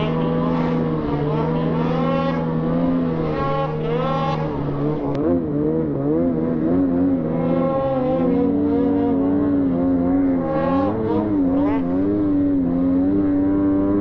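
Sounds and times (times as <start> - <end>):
snowmobile engine revving: 0.0 - 14.0.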